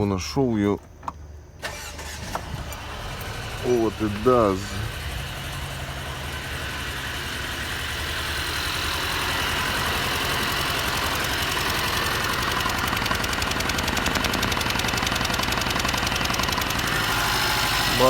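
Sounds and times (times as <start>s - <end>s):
car engine idling with misfire: 0.9s - 18.0s.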